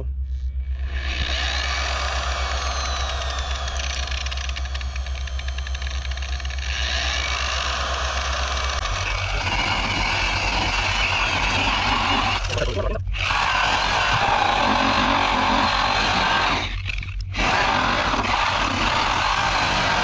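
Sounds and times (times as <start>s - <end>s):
buffer motor hum with whine: 0.0s - 20.0s.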